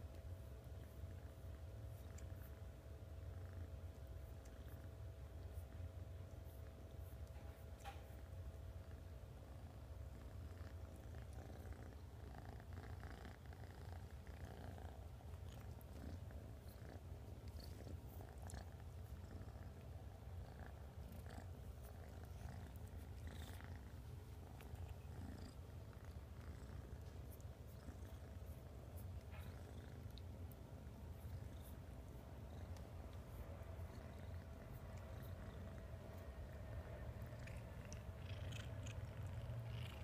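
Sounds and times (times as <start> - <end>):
kitten purring: 0.0 - 40.0.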